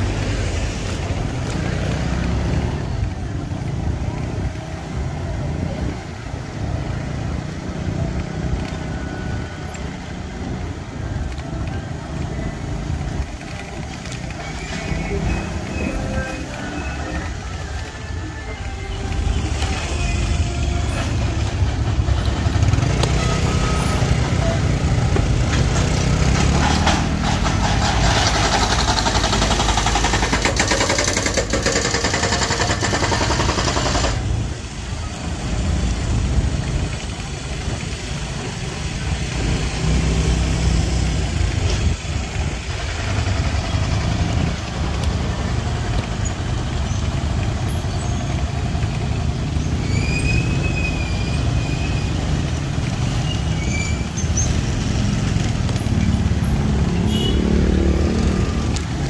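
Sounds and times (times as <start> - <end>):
vehicles passing close by: 0.0 - 59.0.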